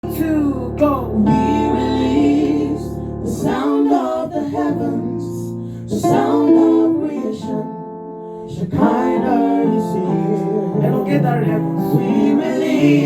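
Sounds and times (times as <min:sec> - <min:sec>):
voices singing long phrases: 0:00.0 - 0:07.7, 0:08.5 - 0:13.0
sustained instrumental chords: 0:00.0 - 0:13.0.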